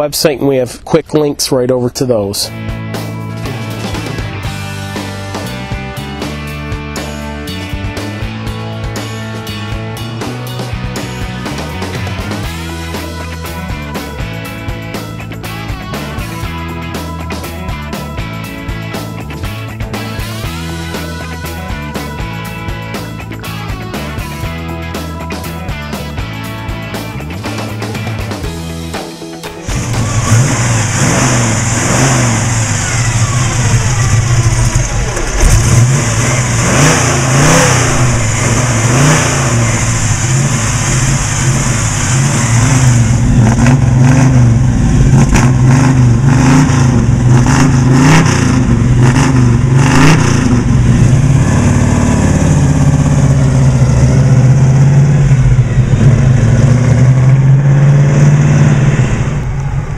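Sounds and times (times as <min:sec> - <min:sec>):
car engine revving: 0:02.6 - 0:28.9, 0:29.6 - 0:59.9.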